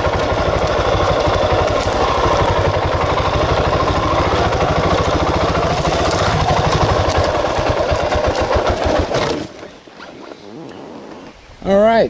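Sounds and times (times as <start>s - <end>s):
motorcycle engine puttering: 0.0s - 9.8s.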